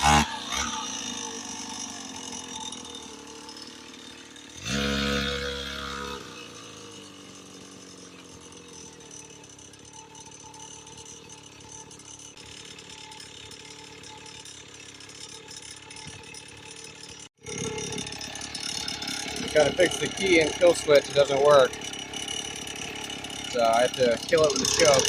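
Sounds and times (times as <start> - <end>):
dirt bike engine idling: 0.0 - 25.0
fast mechanical ticking rattle: 0.0 - 25.0.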